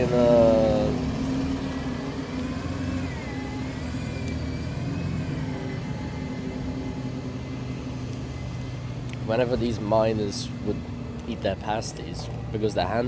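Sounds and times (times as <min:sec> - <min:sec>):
motor humming with whine: 0:00.0 - 0:13.0.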